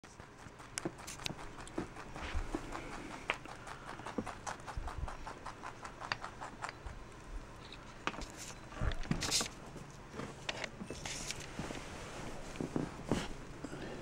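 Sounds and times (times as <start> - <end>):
rabbit crunching carrot tops: 0.0 - 11.5.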